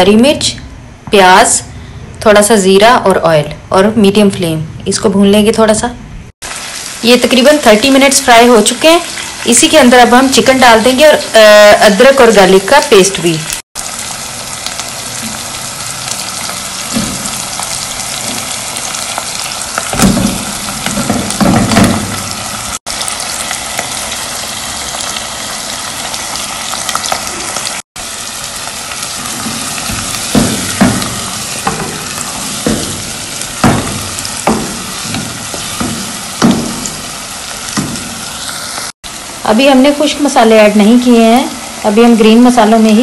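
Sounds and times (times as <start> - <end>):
chicken sizzling in hot oil: 6.4 - 43.0.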